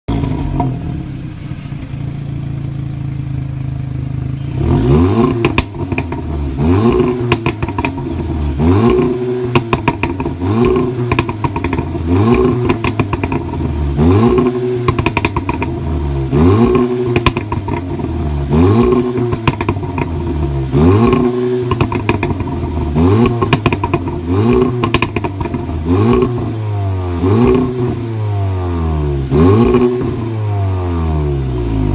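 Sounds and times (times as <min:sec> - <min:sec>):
exhaust pops and crackles: 0:00.1 - 0:02.6, 0:04.8 - 0:28.2, 0:29.2 - 0:30.5
car engine idling and revving: 0:00.1 - 0:31.9.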